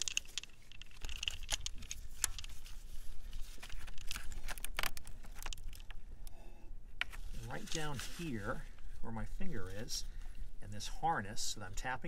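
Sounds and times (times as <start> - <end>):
gloved hands rustling: 0.0 - 6.2, 7.0 - 11.3
low steady hum: 0.0 - 12.0.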